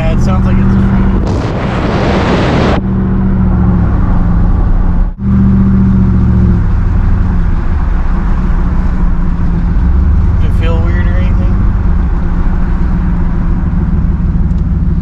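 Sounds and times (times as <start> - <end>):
pickup engine running: 0.0 - 15.0.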